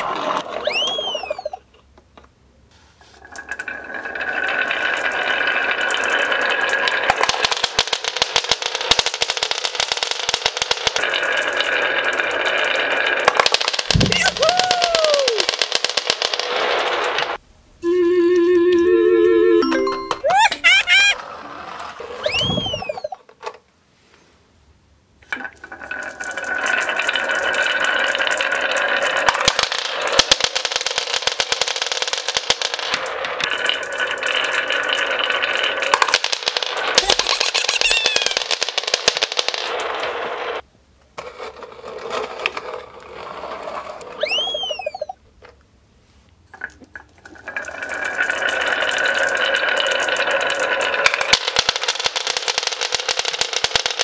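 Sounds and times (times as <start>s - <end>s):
marbles clattering on wooden floor: 0.0s - 1.6s, 3.2s - 17.4s, 19.6s - 23.6s, 25.2s - 45.6s, 46.5s - 54.0s
marbles rattling down wooden chute: 0.0s - 1.6s, 3.2s - 17.4s, 19.6s - 23.3s, 25.3s - 40.6s, 41.4s - 45.2s, 46.6s - 54.0s.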